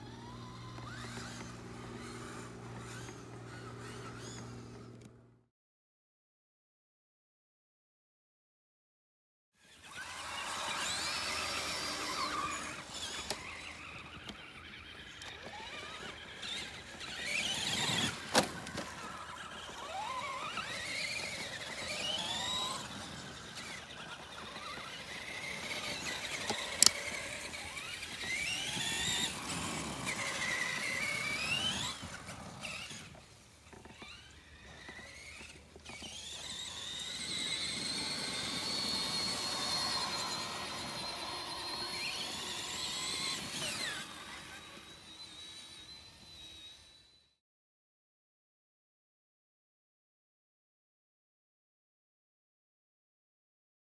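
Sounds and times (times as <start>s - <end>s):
electric toy truck motors whining: 0.0s - 5.5s, 9.6s - 47.4s.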